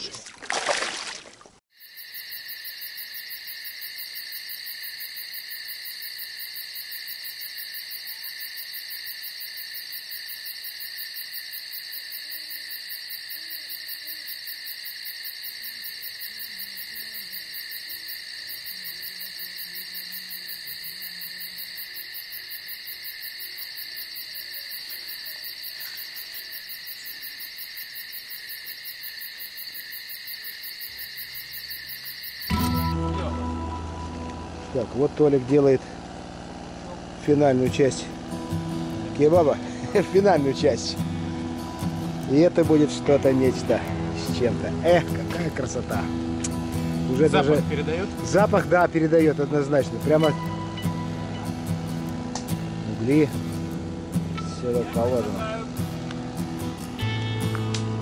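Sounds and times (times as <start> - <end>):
crickets chirping: 1.7 - 33.0, 33.6 - 57.2.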